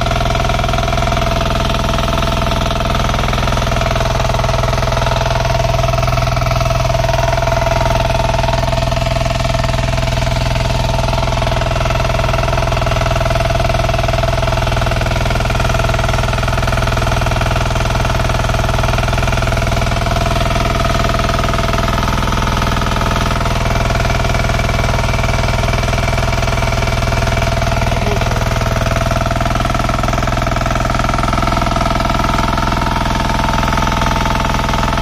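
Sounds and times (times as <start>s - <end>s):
electric fan heater running: 0.0s - 35.0s
generator humming: 0.0s - 35.0s.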